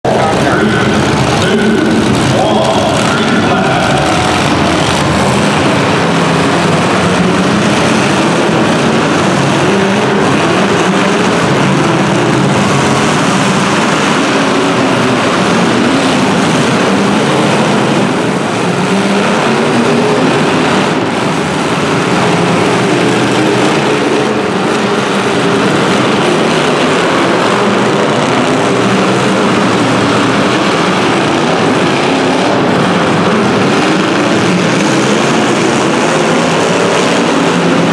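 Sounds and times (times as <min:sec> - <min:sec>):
car engines revving together: 0:00.1 - 0:37.9.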